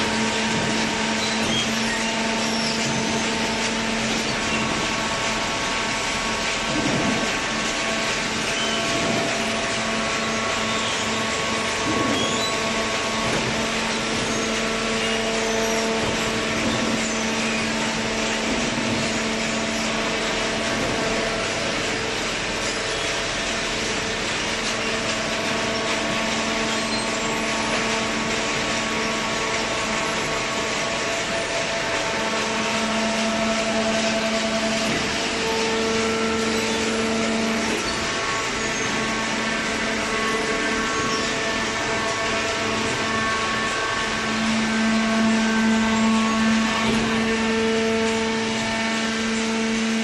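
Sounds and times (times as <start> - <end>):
baler mechanical hum: 0.0 - 50.0.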